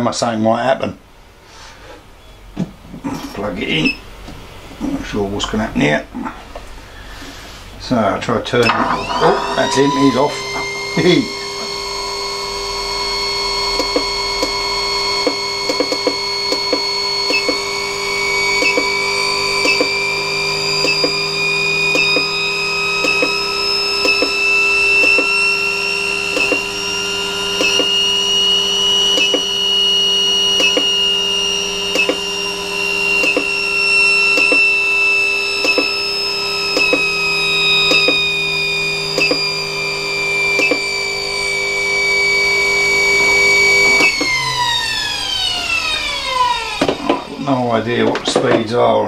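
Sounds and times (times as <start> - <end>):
electric motor whine: 8.5 - 49.0.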